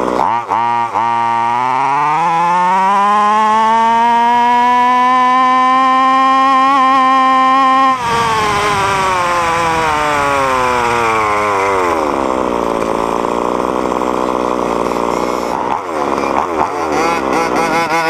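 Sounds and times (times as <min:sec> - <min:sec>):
small engine revving and idling: 0:00.0 - 0:18.0.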